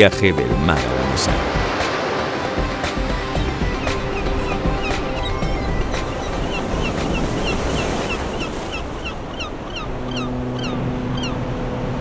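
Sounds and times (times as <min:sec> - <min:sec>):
sea waves washing: 0:00.0 - 0:12.0.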